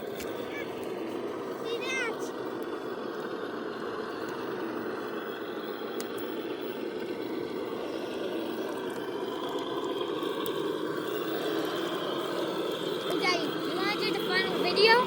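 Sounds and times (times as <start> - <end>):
electric motor and gears running: 0.0 - 15.0.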